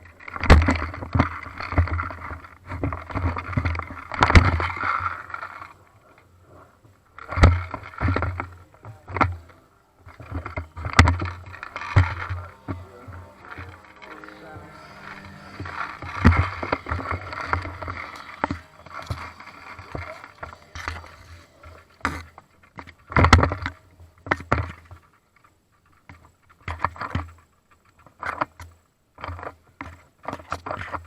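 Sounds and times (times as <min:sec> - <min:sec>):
rustling movement noise: 0:00.0 - 0:31.0.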